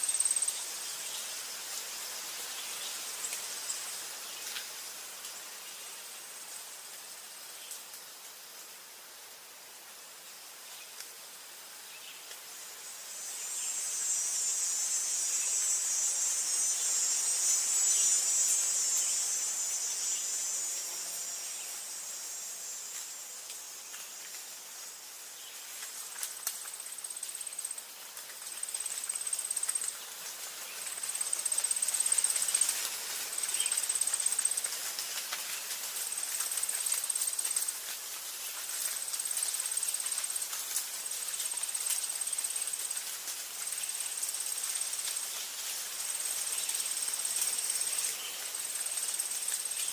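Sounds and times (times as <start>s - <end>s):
high insect trills: 0.0s - 49.9s
insects buzzing: 0.0s - 49.9s.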